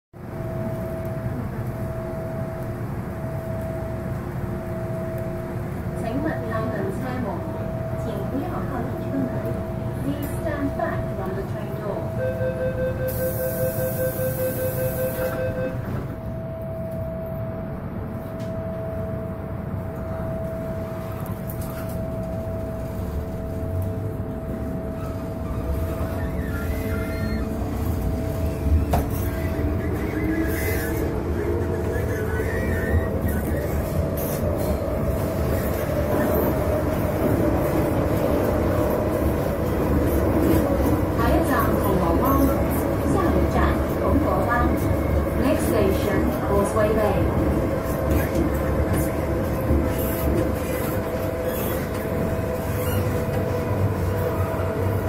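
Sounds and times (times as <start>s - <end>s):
train equipment hum: 0.2s - 55.0s.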